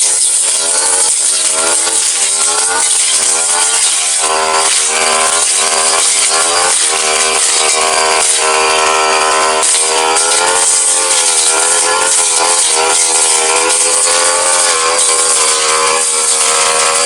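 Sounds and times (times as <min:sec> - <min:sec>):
brush cutter cutting grass: 0:00.0 - 0:17.0.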